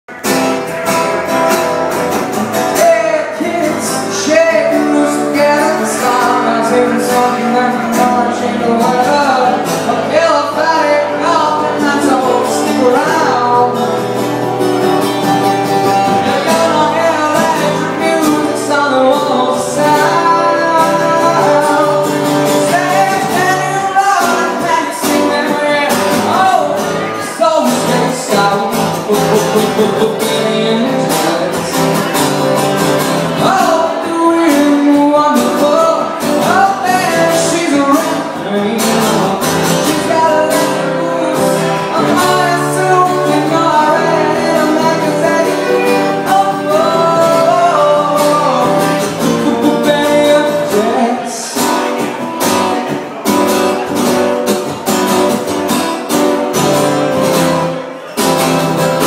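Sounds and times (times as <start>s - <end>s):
acoustic guitar through speakers: 0.1s - 59.0s
man singing: 0.1s - 59.0s.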